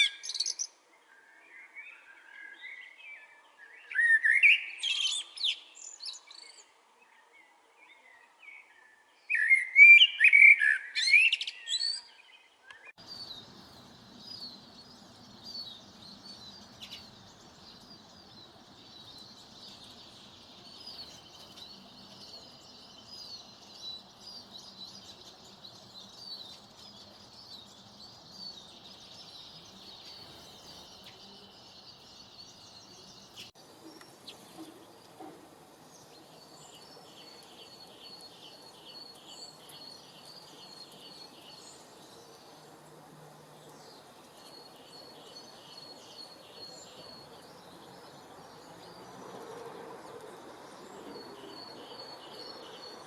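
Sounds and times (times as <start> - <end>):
chorus of small birds chirping: 0.0 - 7.2, 7.8 - 53.0
bird song phrases: 0.0 - 53.0
faint background noise: 0.0 - 53.0.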